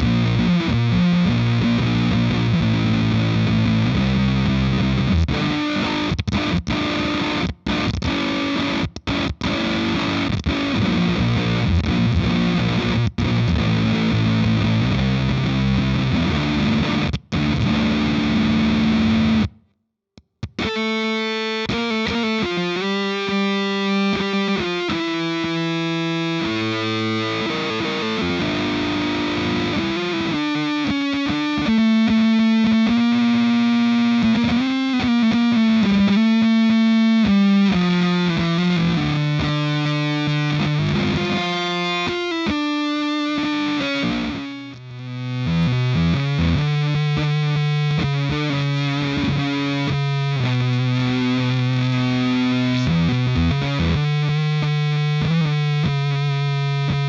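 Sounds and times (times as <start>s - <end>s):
fuzzed electric guitar: 0.0s - 57.0s.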